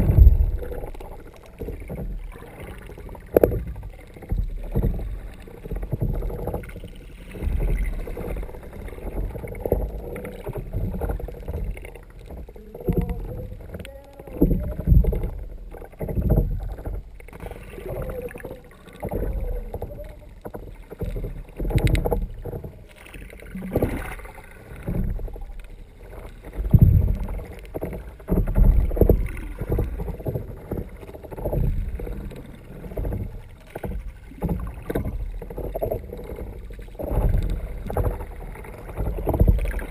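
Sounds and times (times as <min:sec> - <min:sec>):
low underwater rumble: 0:00.0 - 0:39.9
muffled water sloshing underwater: 0:00.0 - 0:39.9.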